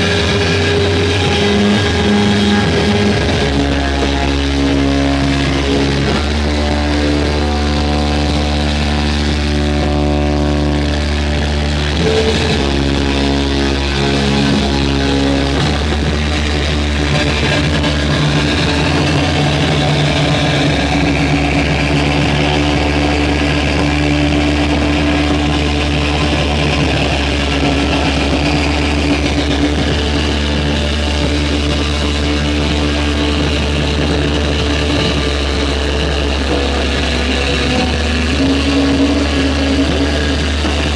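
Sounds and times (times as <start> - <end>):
electric guitar drone: 0.0 - 40.9.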